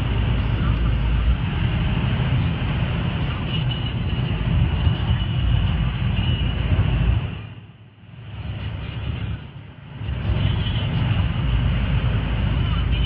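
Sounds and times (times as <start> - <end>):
car engine running hard: 0.0 - 13.0
wind and tyre noise in car cabin: 0.0 - 13.0.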